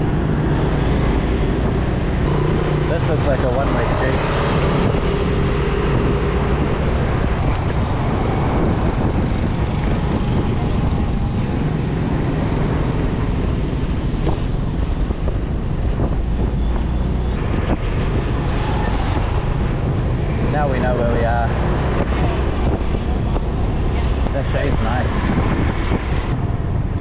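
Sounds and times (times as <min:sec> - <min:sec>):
motorbike and car traffic: 0:00.0 - 0:27.0
wind buffeting microphone: 0:00.0 - 0:27.0.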